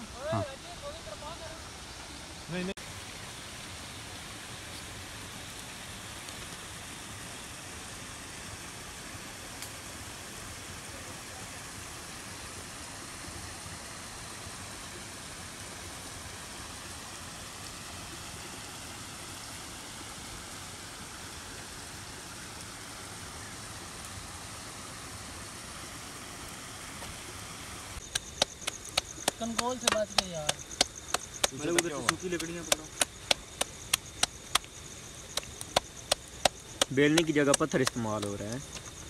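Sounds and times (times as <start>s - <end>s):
water rushing: 0.0s - 39.0s.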